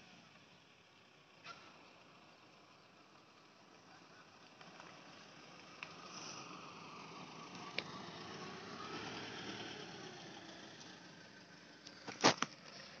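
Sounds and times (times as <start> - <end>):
pickup truck driving past: 0.0 - 13.0.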